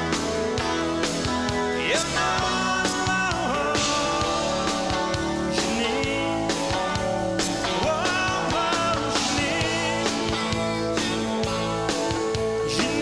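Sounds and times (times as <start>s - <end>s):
drum kit beat: 0.0s - 13.0s
guitar: 0.0s - 13.0s
person singing: 1.8s - 11.8s, 12.5s - 13.0s.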